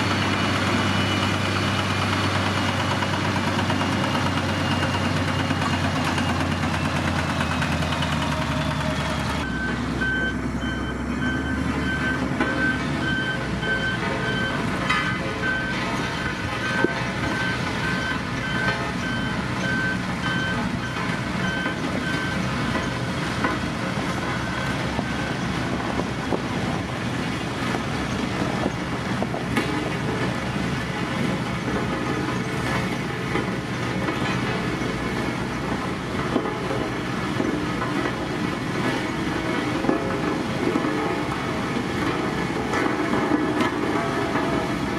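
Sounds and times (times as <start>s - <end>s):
heavy diesel machinery running: 0.0s - 44.9s.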